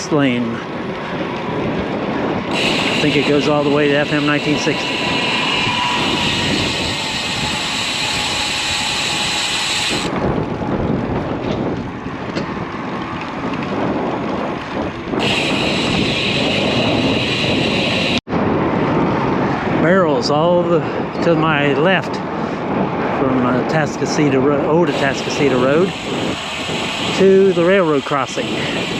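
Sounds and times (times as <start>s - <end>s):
bicycle road noise: 0.0s - 28.9s
passing traffic: 0.0s - 28.9s
wind rush on microphone: 0.0s - 28.9s.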